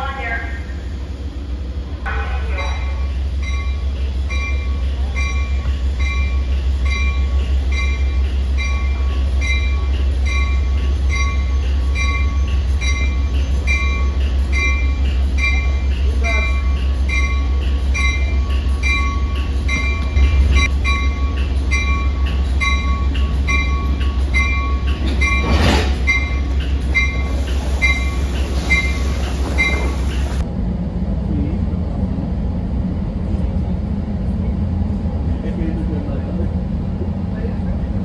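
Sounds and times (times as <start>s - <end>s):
train engine rumble: 0.0s - 38.0s.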